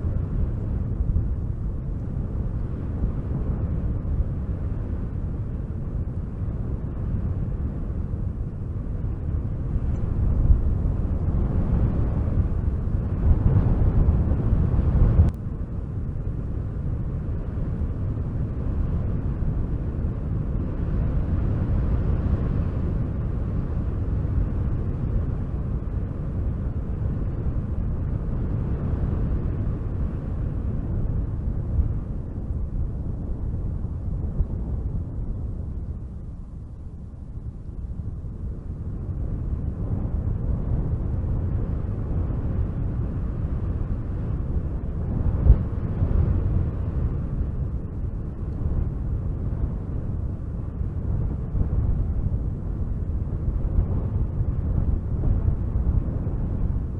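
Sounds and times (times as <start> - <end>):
wind blowing in gusts: 0.0 - 56.9.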